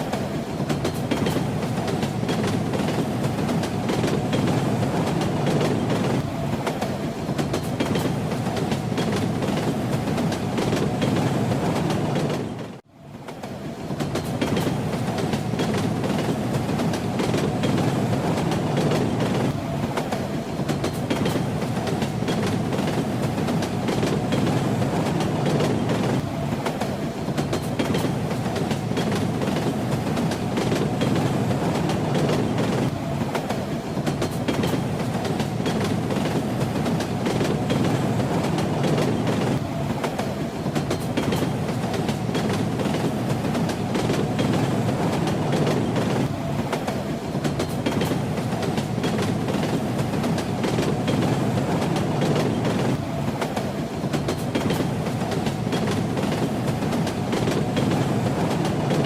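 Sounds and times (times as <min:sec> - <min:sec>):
train wheels clacking on rails: 0:00.0 - 0:59.0.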